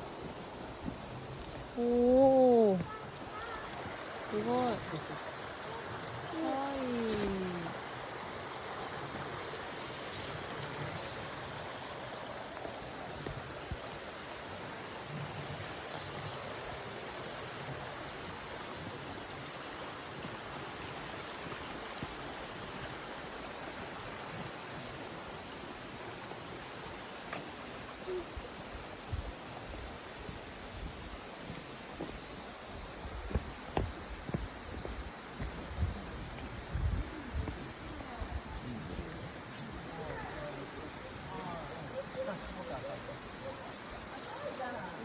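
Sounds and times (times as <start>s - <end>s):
stream rushing over waterfalls: 0.0s - 45.0s.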